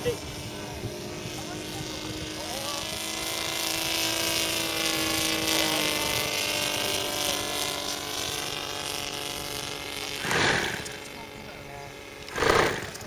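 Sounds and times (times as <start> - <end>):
model airplane engine drone: 0.0 - 13.0.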